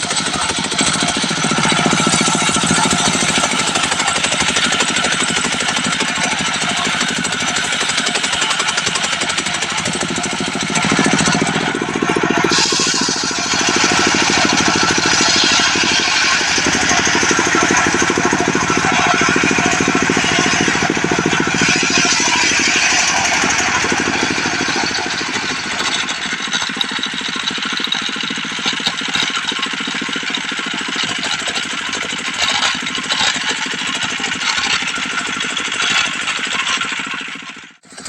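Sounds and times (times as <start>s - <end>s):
circular saw cutting log: 0.0s - 38.0s
diesel engine running: 0.0s - 38.0s.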